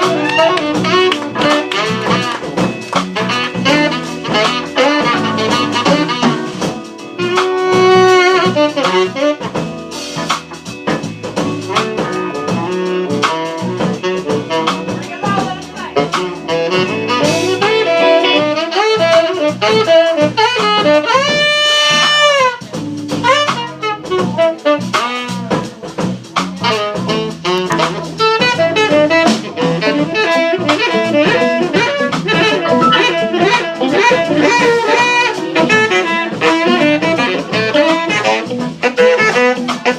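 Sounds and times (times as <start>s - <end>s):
drum kit: 0.0s - 39.9s
saxophone solo: 0.0s - 39.9s.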